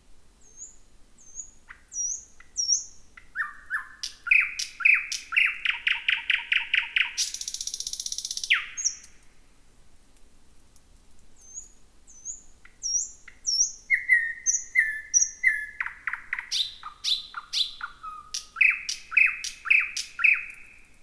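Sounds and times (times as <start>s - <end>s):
bird song with whistles and clicks: 0.4s - 9.2s, 11.4s - 21.0s.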